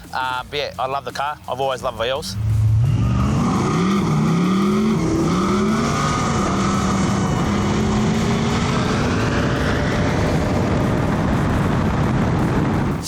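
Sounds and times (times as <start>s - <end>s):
race car engine running hard: 2.3s - 13.0s.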